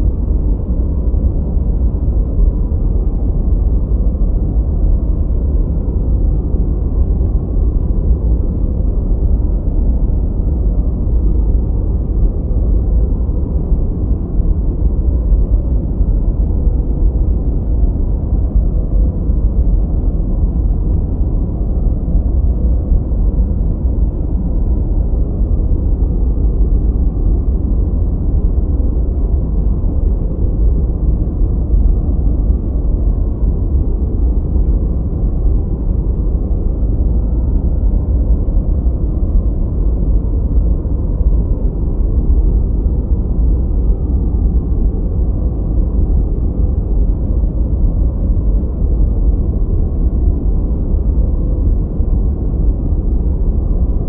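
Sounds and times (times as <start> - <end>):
deep muffled white noise: 0.0 - 54.0.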